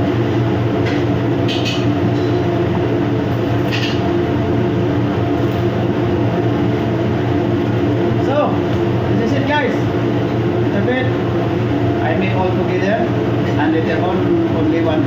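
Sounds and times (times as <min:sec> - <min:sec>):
continuous hum: 0:00.0 - 0:15.0
low mechanical rumble: 0:00.0 - 0:15.0.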